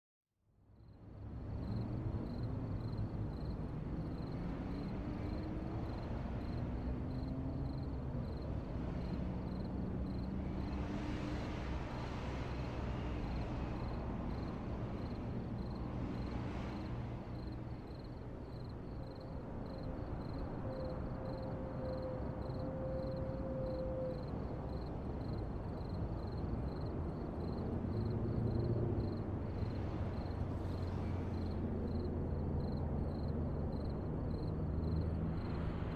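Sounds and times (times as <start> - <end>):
low traffic rumble: 1.0 - 35.9
vehicles passing: 1.2 - 23.2, 24.3 - 35.9.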